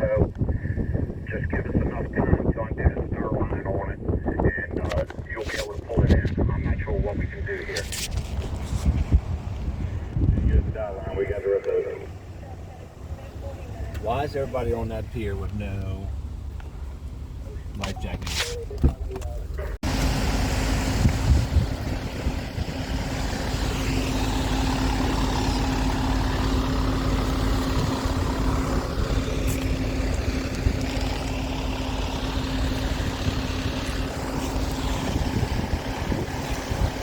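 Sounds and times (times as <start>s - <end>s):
wind buffeting microphone: 0.0s - 14.4s, 20.2s - 37.0s
engine running steadily: 0.0s - 37.0s.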